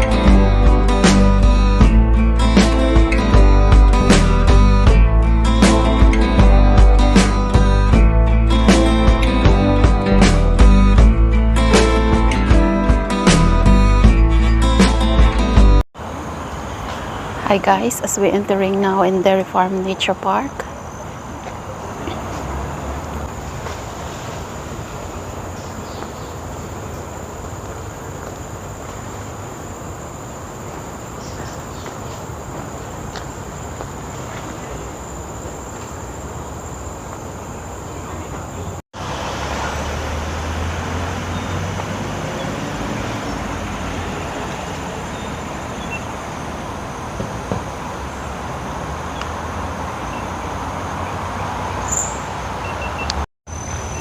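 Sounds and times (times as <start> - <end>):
low traffic rumble: 0.0 - 54.0
road traffic hum: 0.0 - 54.0.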